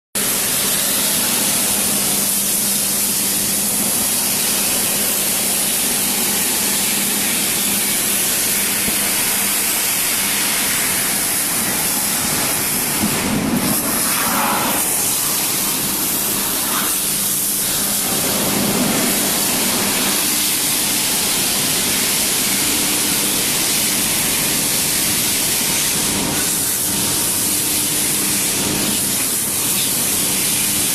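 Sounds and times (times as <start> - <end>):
firework spraying hiss: 0.2 - 30.9.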